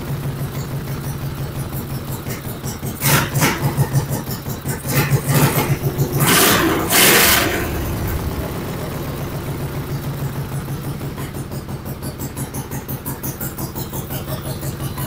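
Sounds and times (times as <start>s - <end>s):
racing lawn mower engine revving: 0.0s - 15.0s.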